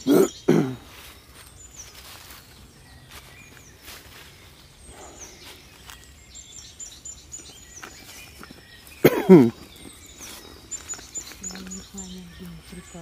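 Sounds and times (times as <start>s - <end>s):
footsteps in dry leaves: 0.0s - 13.0s
small birds calling: 0.0s - 13.0s.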